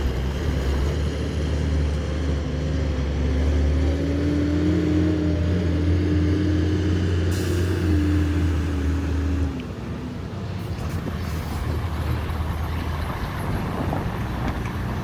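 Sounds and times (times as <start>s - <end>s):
heavy diesel engine humming: 0.0s - 15.0s.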